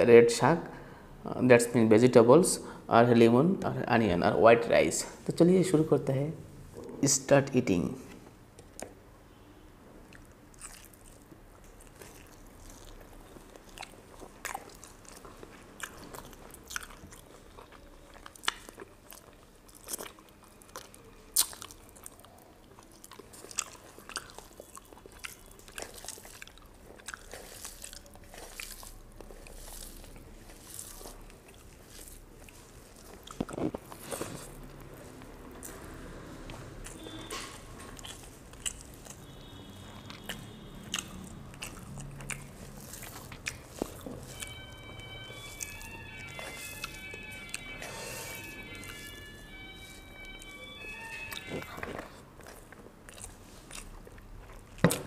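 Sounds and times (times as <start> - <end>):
crunching and chewing: 10.1 - 55.0.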